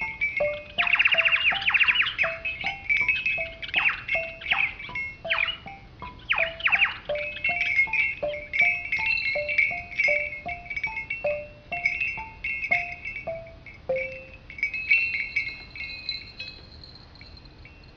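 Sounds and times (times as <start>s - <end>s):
higher ringing tones: 0.0s - 17.9s.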